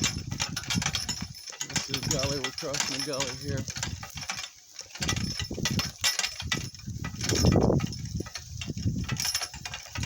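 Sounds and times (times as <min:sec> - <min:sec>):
cart rattling over rough ground: 0:00.0 - 0:10.0.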